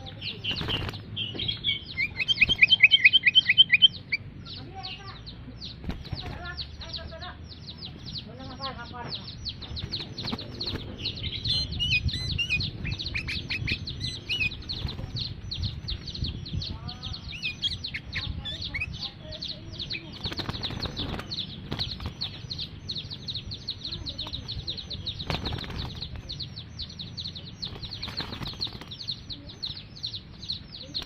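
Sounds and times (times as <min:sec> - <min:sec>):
bird chirping: 0:00.0 - 0:31.0
bird twittering: 0:00.0 - 0:31.0.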